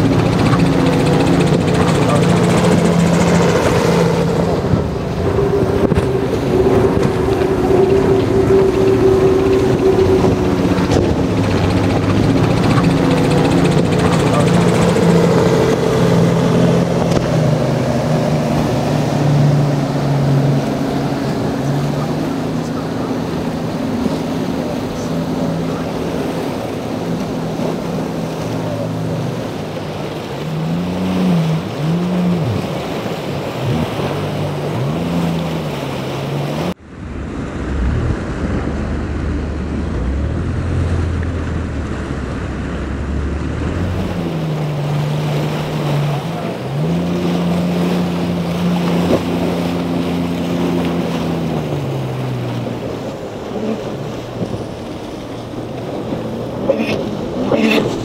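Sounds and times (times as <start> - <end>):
wind on microphone: 0.0 - 29.8, 36.8 - 58.0
low drone: 0.0 - 58.0
outboard engines running: 0.0 - 58.0
water rushing: 0.0 - 58.0.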